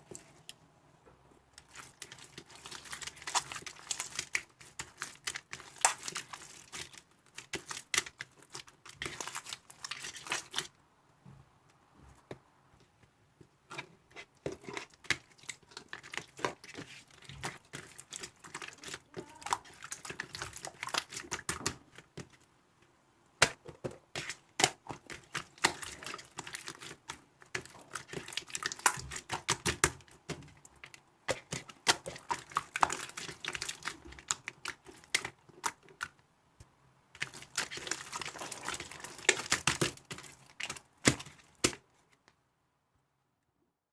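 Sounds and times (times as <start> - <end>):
rapid clicking and crinkling: 1.5 - 10.7, 13.7 - 22.5, 23.7 - 36.2, 37.2 - 42.4.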